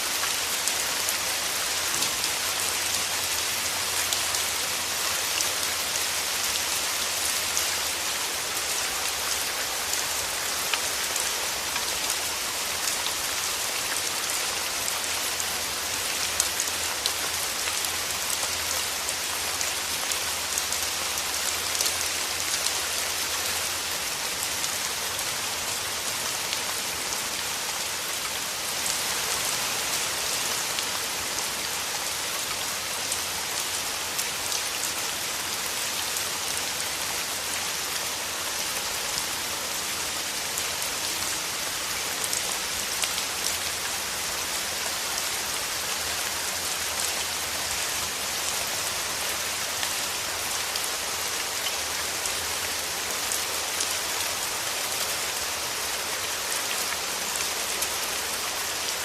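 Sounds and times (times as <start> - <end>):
rain falling through trees: 0.0 - 59.0.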